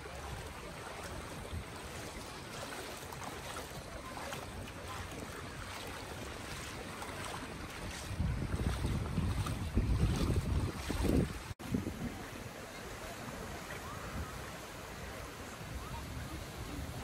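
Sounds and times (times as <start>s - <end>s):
waves lapping at shoreline: 0.0s - 17.0s
wind on microphone: 0.0s - 17.0s.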